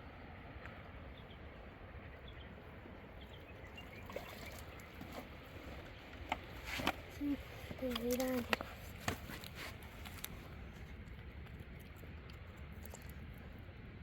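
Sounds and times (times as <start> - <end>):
flowing river water: 0.0 - 11.7.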